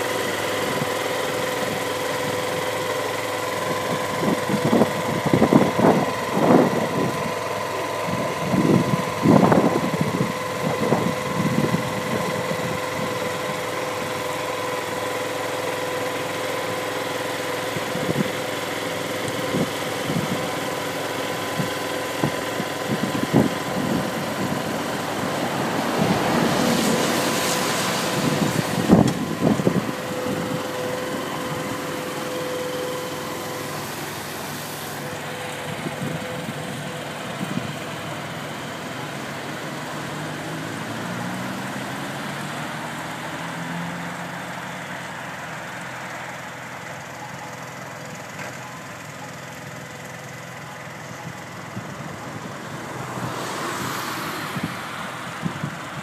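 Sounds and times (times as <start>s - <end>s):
machine engine humming: 0.0s - 56.0s.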